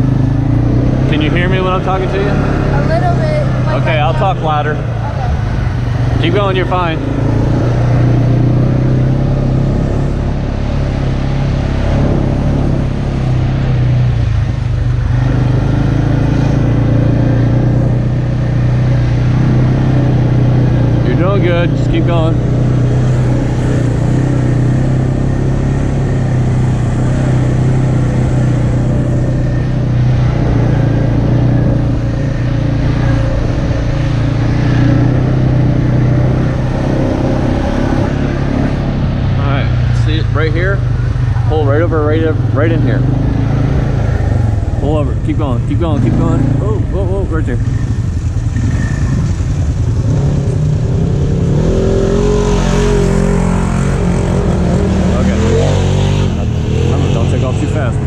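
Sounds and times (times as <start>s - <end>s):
atv engine droning: 0.0s - 58.0s
off-road vehicles driving past: 0.0s - 58.0s.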